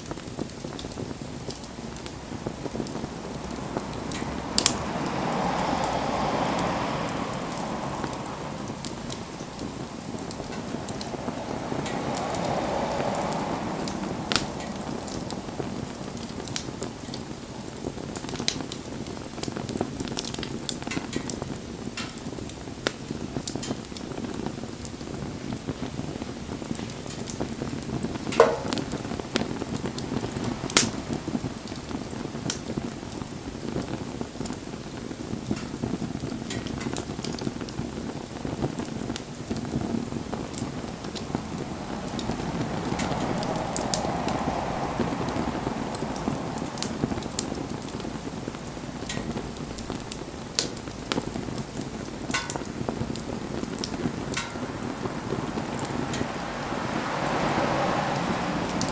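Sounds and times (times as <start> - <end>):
sharp pops from fire: 0.0 - 56.4
campfire crackling: 0.0 - 58.9.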